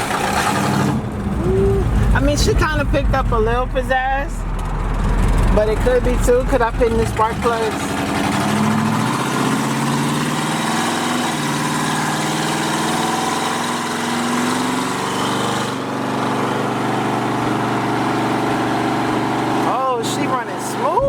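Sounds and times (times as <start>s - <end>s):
car engine driving: 0.0s - 21.0s.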